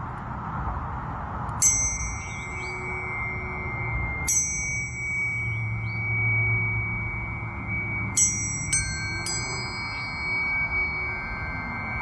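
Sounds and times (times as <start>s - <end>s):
tuning forks ringing pure tones: 1.5s - 12.0s
tuning fork metallic clang: 1.6s - 12.0s.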